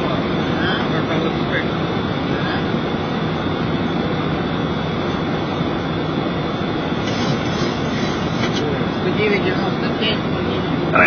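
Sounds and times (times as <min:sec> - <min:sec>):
airflow rushing over aircraft: 0:00.0 - 0:11.0
jet engines humming: 0:00.0 - 0:11.0.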